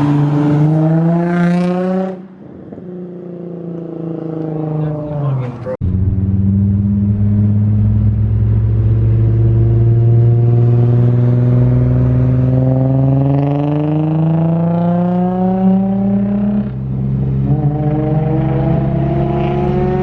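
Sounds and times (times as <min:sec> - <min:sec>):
car engine accelerating: 0:03.0 - 0:20.0.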